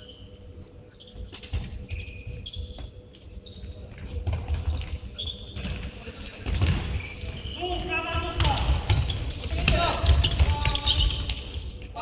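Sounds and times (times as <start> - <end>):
shoes squeaking on court floor: 0.0 - 12.0.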